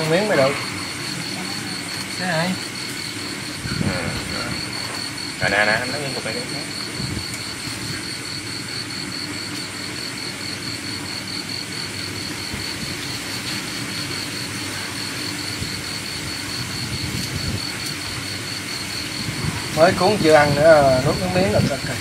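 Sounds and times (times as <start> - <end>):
insect chirping: 0.0 - 22.0
rain hissing: 0.0 - 22.0.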